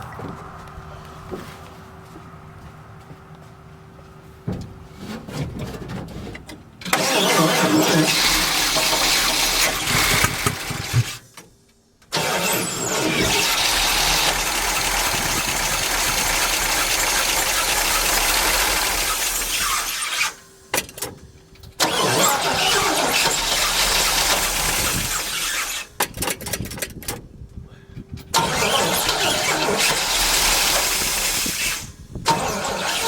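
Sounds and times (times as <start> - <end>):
truck engine starting and running: 0.0 - 27.4, 28.0 - 33.0.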